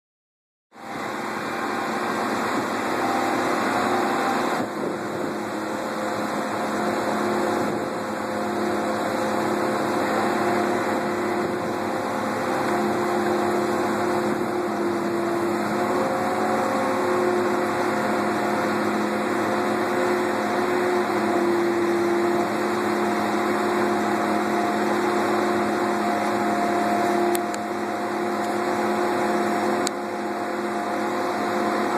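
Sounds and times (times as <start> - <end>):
boat diesel engine humming: 0.7 - 31.9.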